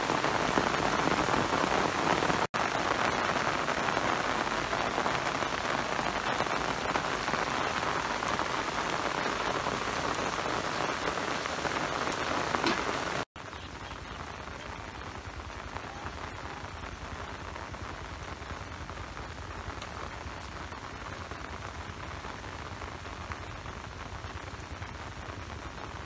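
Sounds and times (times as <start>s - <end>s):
rain on leaves and ground: 0.0s - 26.0s.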